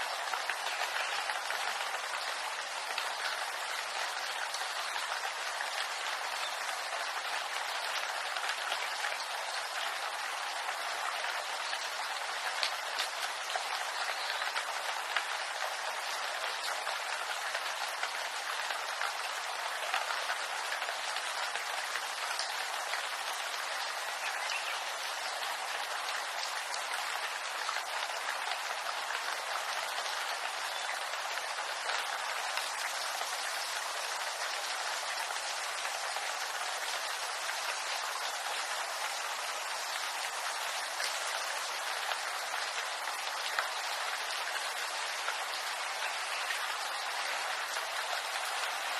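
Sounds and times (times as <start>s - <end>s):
rain pattering on leaves: 0.0s - 48.9s.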